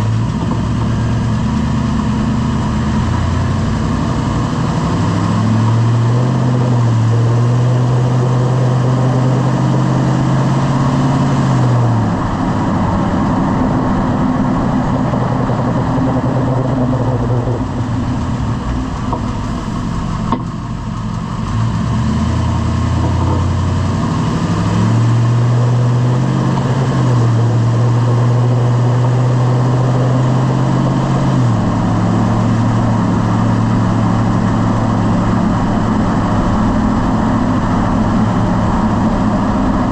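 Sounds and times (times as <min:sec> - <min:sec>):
truck engine and drivetrain: 0:00.0 - 0:39.9.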